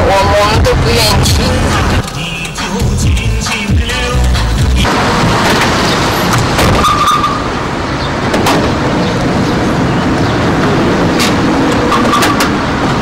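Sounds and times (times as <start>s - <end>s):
parking lot traffic: 0.0s - 13.0s.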